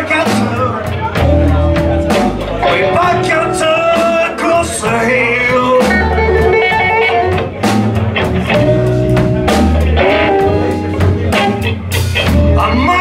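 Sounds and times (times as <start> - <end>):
blues band playing: 0.0 - 13.0.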